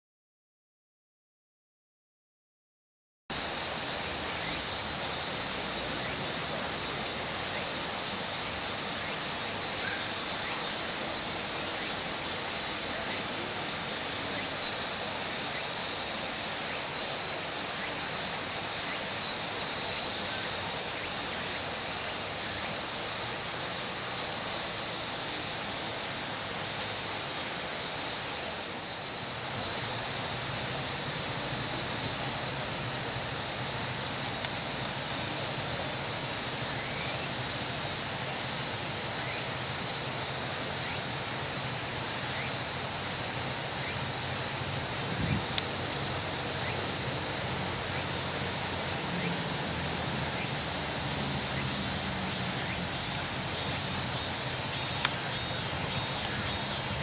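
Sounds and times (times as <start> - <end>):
insect chorus drone: 3.3 - 57.0.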